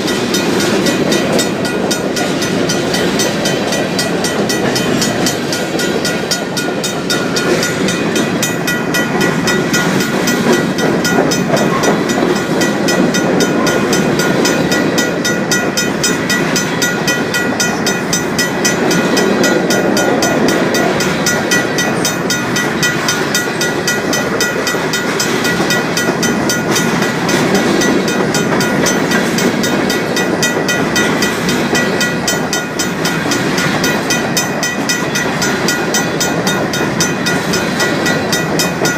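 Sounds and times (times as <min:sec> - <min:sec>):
crossing bell ringing: 0:00.0 - 0:38.9
train wheels clacking on rails: 0:00.0 - 0:38.9.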